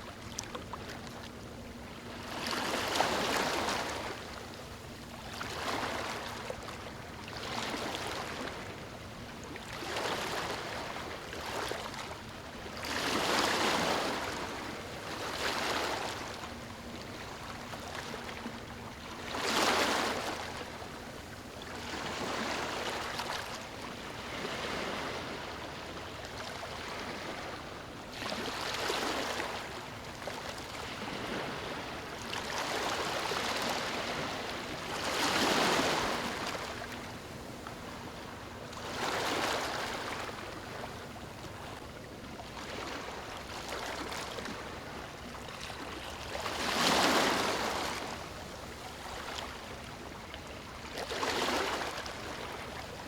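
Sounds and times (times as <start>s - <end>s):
small waves lapping on beach: 0.0s - 53.0s.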